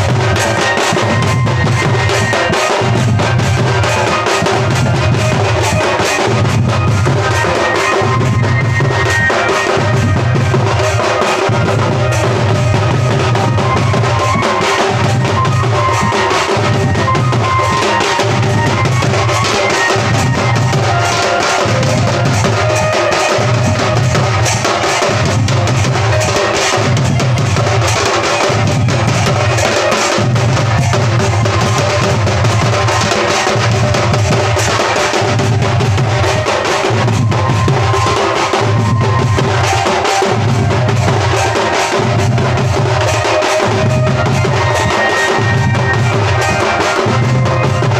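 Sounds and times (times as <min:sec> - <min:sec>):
drum band playing: 0:00.0 - 0:47.9
heavy low drum beat: 0:00.0 - 0:47.9.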